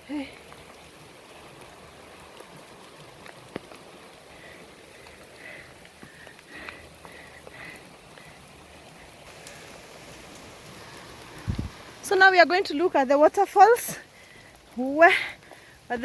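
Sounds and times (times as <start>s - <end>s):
rain on foliage: 0.0s - 16.0s.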